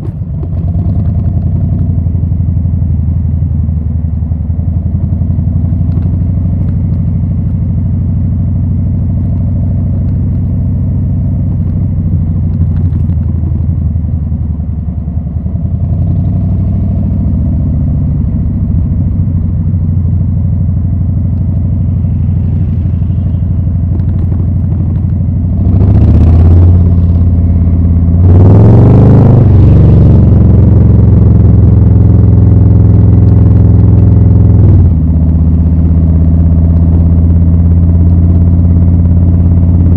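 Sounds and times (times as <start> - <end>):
motorcycle engine revving: 0.0 - 2.5, 4.6 - 39.9.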